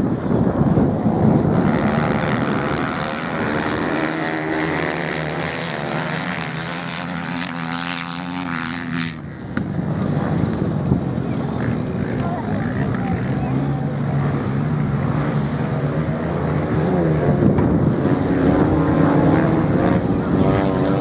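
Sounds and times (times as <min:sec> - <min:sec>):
motorcycle engines racing: 0:00.0 - 0:21.0.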